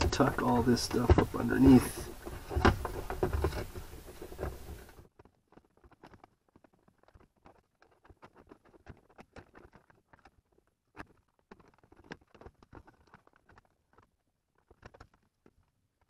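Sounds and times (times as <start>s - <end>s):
small plastic clicks and knocks: 0.0s - 16.0s
wiring rustling: 0.0s - 16.0s.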